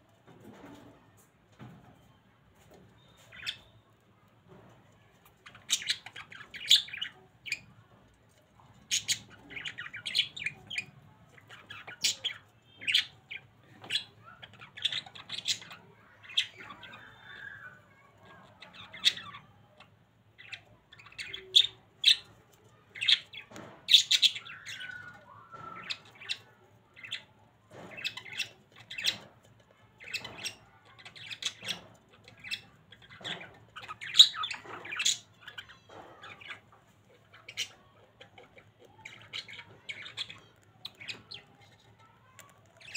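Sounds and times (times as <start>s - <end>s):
budgerigars chirping and squawking: 2.6s - 3.8s, 5.3s - 8.0s, 8.7s - 29.4s, 30.0s - 42.9s.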